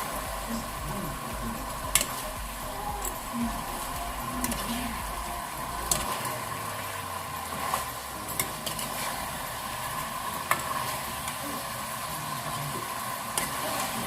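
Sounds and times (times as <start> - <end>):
fish sizzling in a pan: 0.0 - 14.0.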